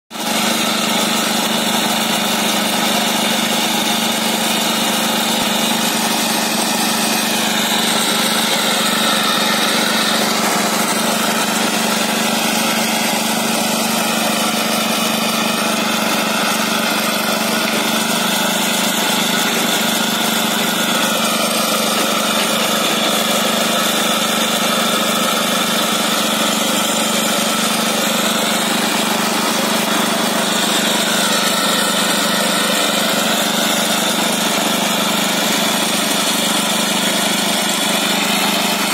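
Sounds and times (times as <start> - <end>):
vibratory plate compactor running: 0.1 - 38.9.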